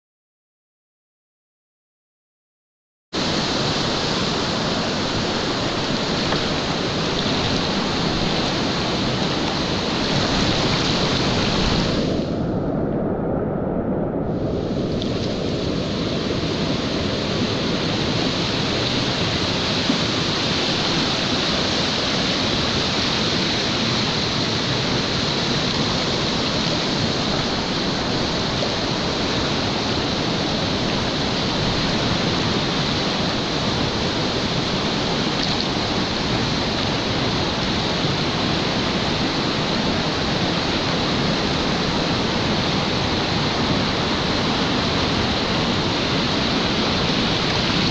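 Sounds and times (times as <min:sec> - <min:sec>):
river rapids rushing over rocks: 0:03.2 - 0:12.0, 0:16.4 - 0:47.9.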